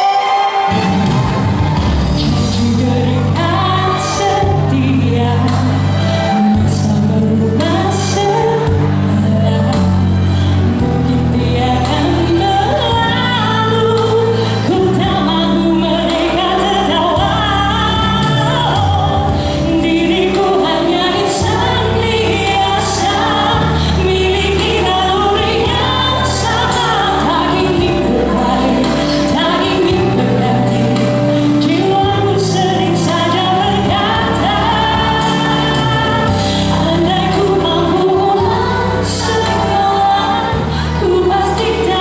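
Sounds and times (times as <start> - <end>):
recorded backing track: 0.0 - 42.0
woman singing into microphone: 0.0 - 42.0.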